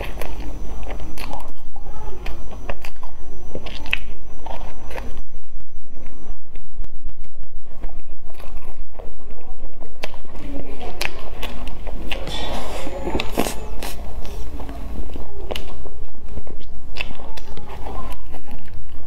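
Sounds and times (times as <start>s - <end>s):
chewing and crunching pastry: 0.0s - 19.0s.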